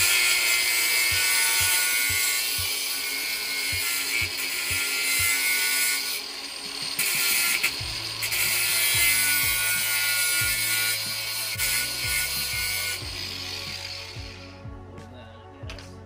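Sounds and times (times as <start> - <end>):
angle grinder cutting stone: 0.0 - 14.5
music with thumping beat: 1.0 - 2.9, 3.6 - 5.6, 6.6 - 16.0.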